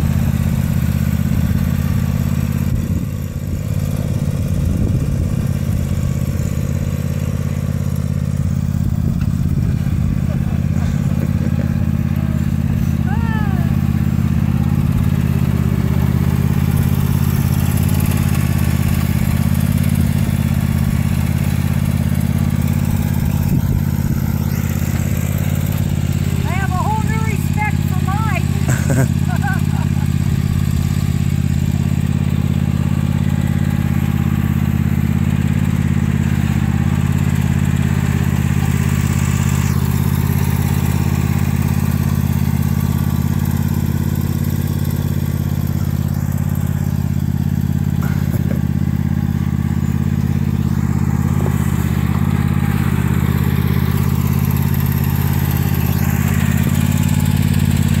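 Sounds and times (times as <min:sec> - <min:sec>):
riding mower engine running: 0:00.0 - 0:58.0.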